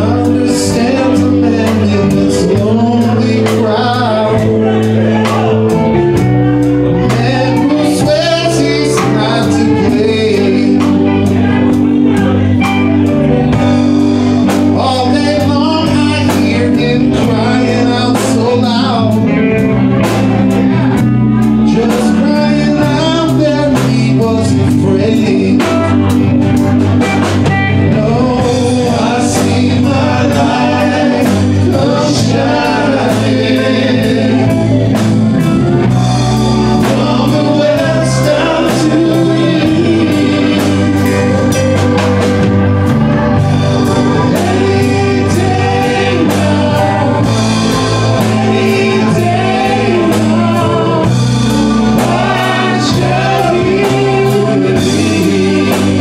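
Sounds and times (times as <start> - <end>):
live rock band playing: 0.0 - 56.0
men singing: 0.0 - 56.0.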